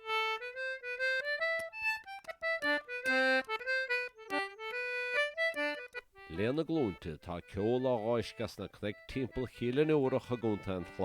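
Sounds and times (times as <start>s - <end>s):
accordion melody: 0.0s - 11.0s.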